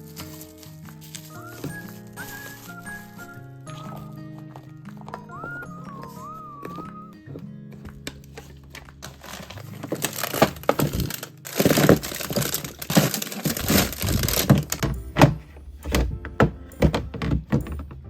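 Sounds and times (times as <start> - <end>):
plastic packaging crinkling: 0.0 - 6.6, 7.8 - 17.6.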